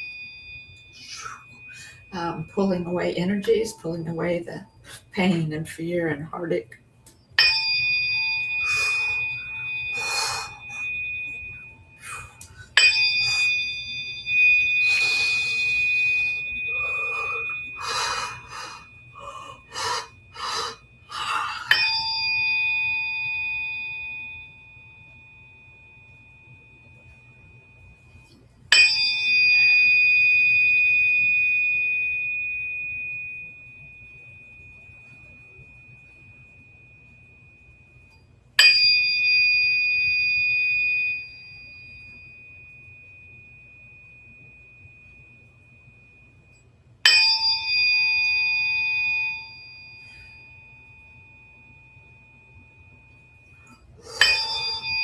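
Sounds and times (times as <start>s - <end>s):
tuning fork ringing: 0.0s - 6.5s, 7.1s - 55.0s.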